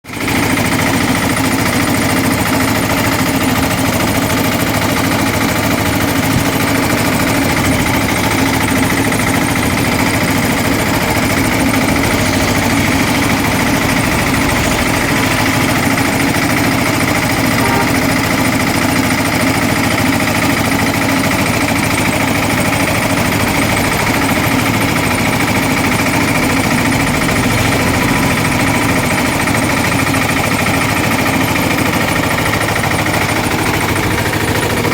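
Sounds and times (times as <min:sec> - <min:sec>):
crushing machine droning: 0:00.2 - 0:34.9.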